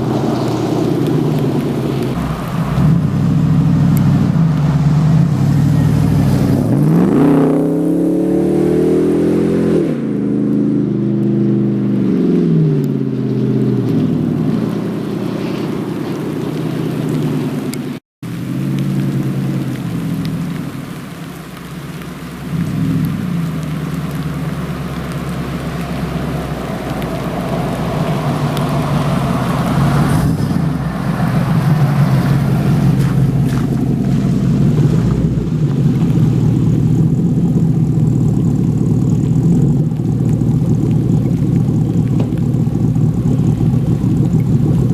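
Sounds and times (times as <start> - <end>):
car engine droning: 0.0 - 44.9.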